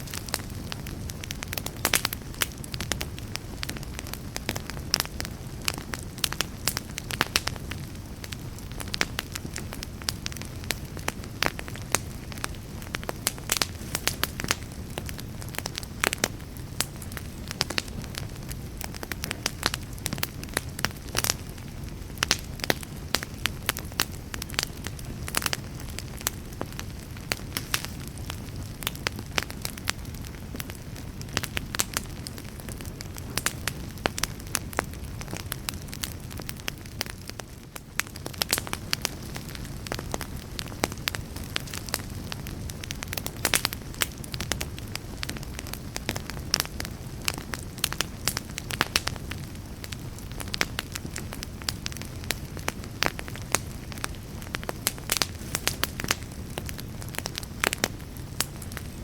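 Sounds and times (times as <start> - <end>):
fire crackles and pops: 0.0 - 59.0
low rumble of flames: 0.0 - 59.0.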